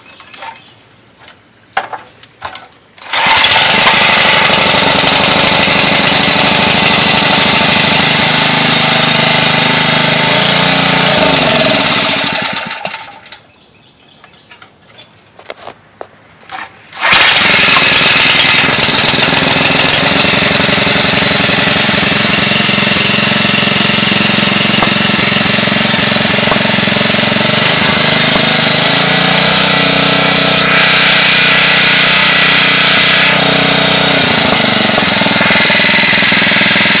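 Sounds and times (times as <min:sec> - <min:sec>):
small engine rattling: 0:03.0 - 0:13.4, 0:16.5 - 0:37.0.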